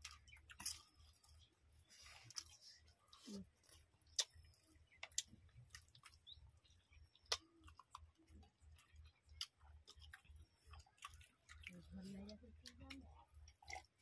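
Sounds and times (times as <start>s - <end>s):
chewing with mouth clicks: 0.0s - 14.0s.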